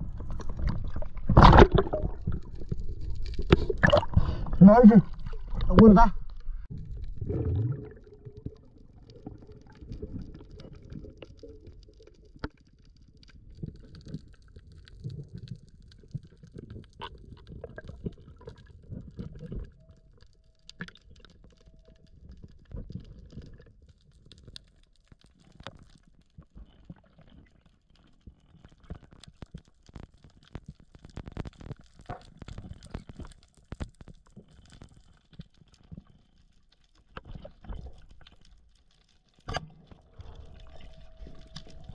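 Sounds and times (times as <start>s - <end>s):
underwater rumbling water: 0.0s - 41.9s
faint underwater clicks: 0.1s - 41.9s.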